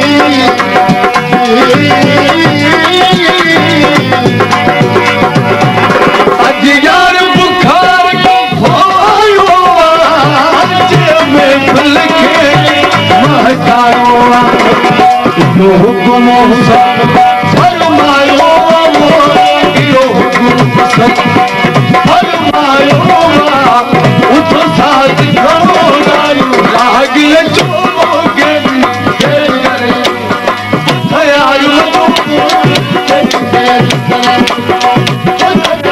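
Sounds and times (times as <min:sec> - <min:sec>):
hand drum: 0:00.0 - 0:35.9
man singing into microphone: 0:00.0 - 0:35.9
plucked string instrument: 0:00.0 - 0:35.9.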